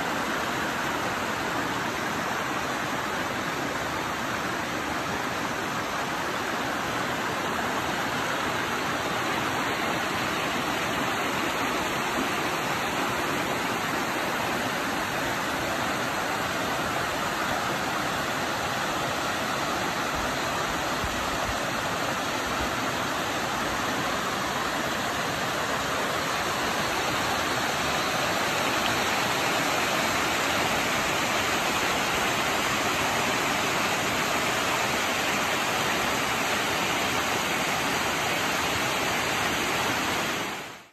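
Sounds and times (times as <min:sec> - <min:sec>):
creek water rushing over rocks: 0:00.0 - 0:40.9.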